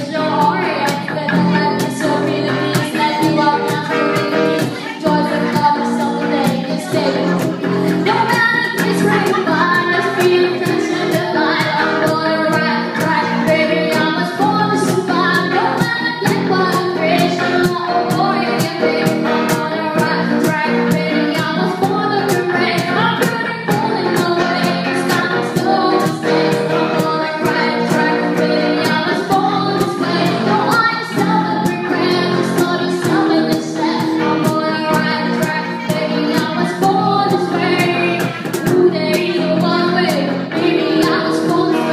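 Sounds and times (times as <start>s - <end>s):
drums beating: 0.0s - 41.9s
live band playing: 0.0s - 41.9s
woman singing: 0.0s - 41.9s.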